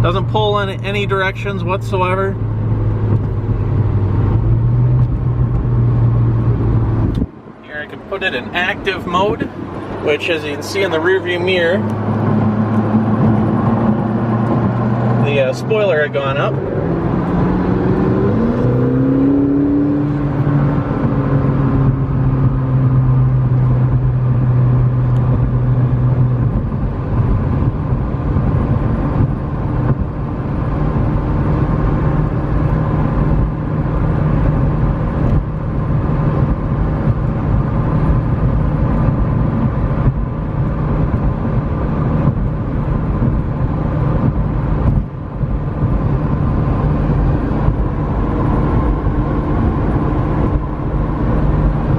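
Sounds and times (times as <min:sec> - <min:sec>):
car engine at speed: 0:00.0 - 0:51.9
tyre and road noise: 0:00.0 - 0:51.9.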